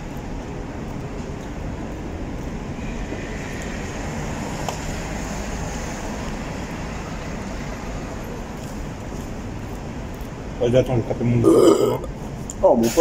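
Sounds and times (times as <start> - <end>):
low urban background rumble: 0.0 - 13.0.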